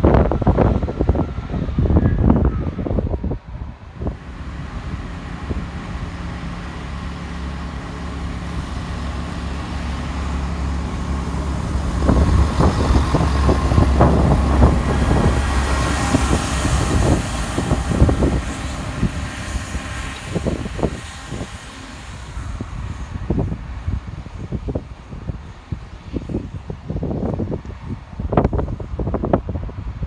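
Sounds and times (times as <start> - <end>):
train engine drone: 0.0 - 30.0.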